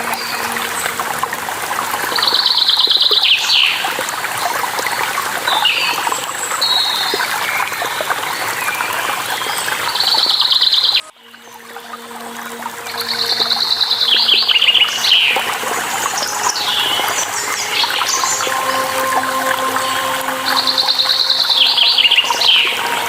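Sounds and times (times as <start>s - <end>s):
running water: 0.0s - 23.0s.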